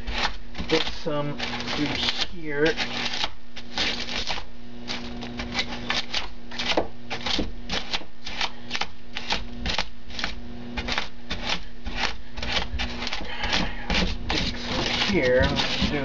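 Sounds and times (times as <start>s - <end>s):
hand tool scraping foam board: 0.0s - 16.0s.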